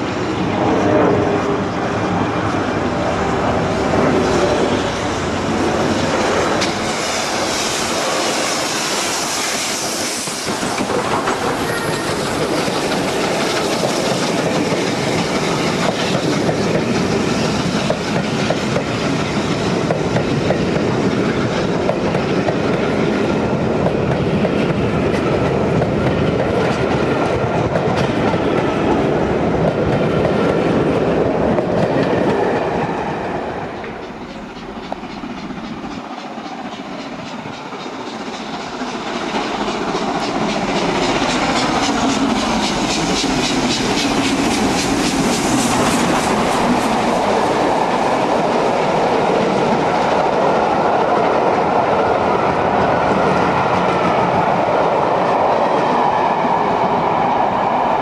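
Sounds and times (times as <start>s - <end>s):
steam train passing at speed: 0.0s - 58.0s.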